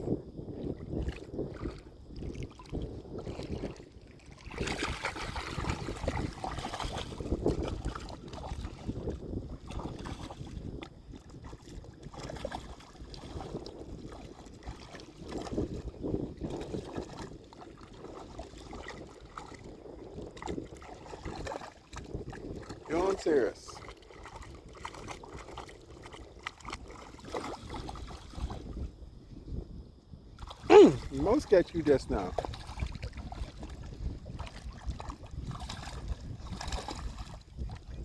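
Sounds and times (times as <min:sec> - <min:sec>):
wind buffeting microphone: 0:00.0 - 0:38.0
sea water sloshing and splashing: 0:00.2 - 0:29.0, 0:30.3 - 0:38.0.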